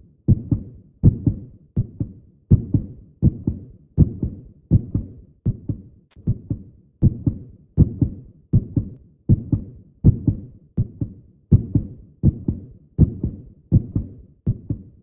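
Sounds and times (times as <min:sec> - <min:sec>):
paired low thumps: 0:00.3 - 0:15.0.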